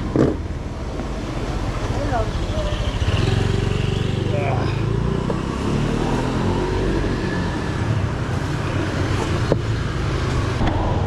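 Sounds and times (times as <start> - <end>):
vehicle engines passing: 0.0 - 11.0.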